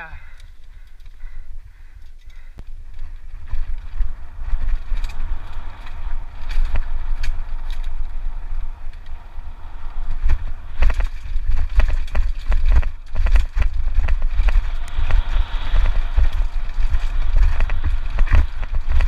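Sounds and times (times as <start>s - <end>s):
wind buffeting camera: 0.0s - 19.0s
bike rattling on rocks: 2.0s - 9.1s, 9.9s - 19.0s.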